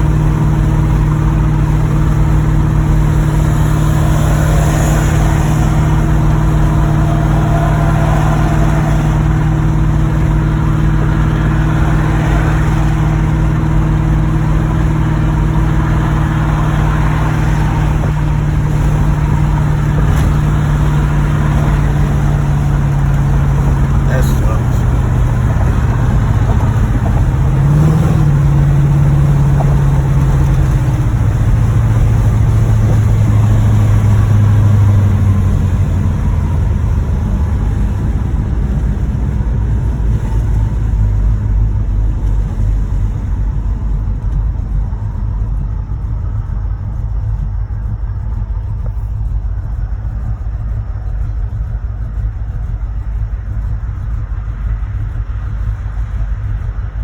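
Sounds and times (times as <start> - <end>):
car engine with rod knock: 0.0 - 49.4.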